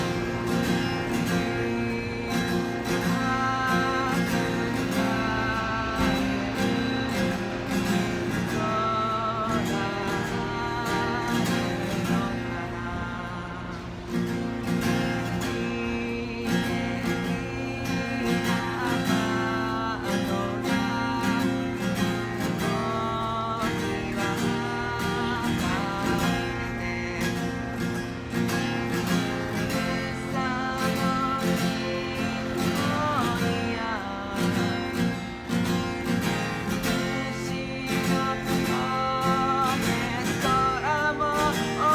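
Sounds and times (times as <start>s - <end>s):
person singing: 0.0s - 41.9s
strummed acoustic guitar: 0.0s - 41.9s.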